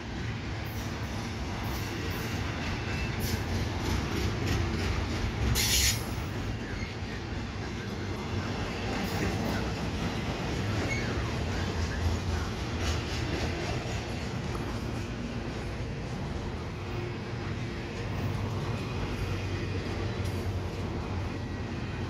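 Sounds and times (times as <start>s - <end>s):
train clanks: 0.0s - 22.0s
train wheels rumbling on rails: 0.0s - 22.0s.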